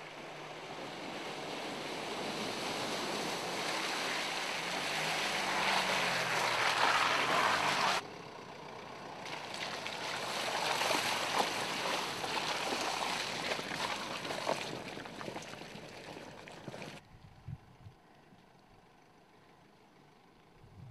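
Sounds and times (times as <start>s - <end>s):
diesel engine running: 0.0s - 17.0s
tyres churning through mud: 0.0s - 17.0s.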